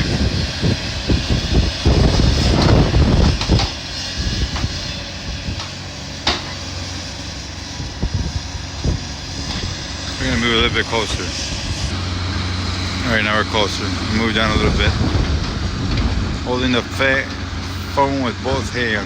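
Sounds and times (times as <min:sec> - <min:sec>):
heavy machinery engine running: 0:00.0 - 0:19.0
wind buffeting microphone: 0:00.0 - 0:19.0.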